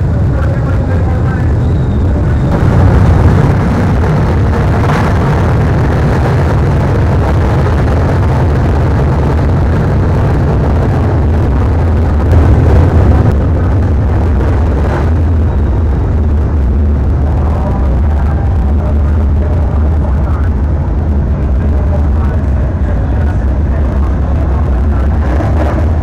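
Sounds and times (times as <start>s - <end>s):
race car engines rumbling: 0.0s - 26.0s.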